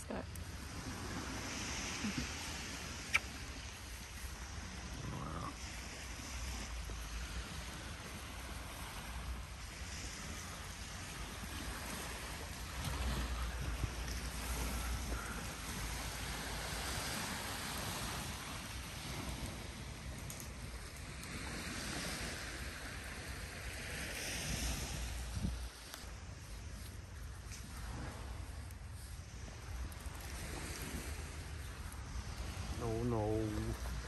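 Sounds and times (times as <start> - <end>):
small waves on pebble beach: 0.0 - 34.0
wind rumbling on microphone: 0.0 - 34.0.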